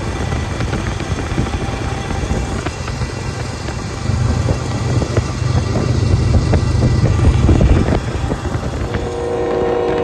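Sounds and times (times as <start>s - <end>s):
vehicle low rumble: 0.0s - 10.0s.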